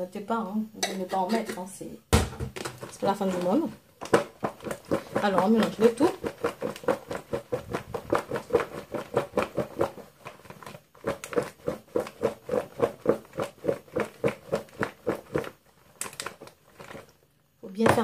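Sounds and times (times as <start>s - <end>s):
food shaken in plastic tub: 2.5s - 17.1s.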